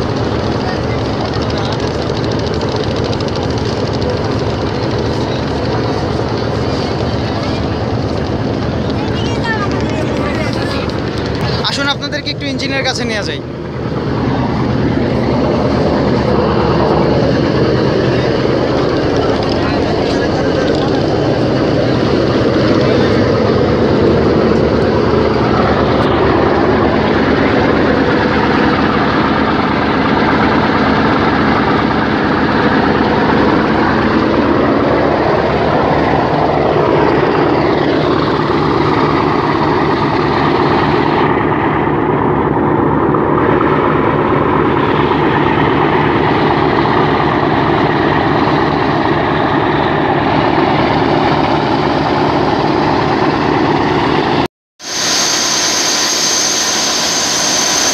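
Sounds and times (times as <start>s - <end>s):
boat engine drone: 0.0s - 57.9s
wake churning along hull: 0.0s - 57.9s.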